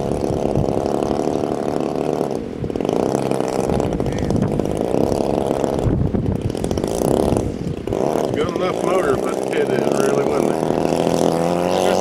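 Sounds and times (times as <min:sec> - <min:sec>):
model airplane engine buzzing: 0:00.0 - 0:12.0.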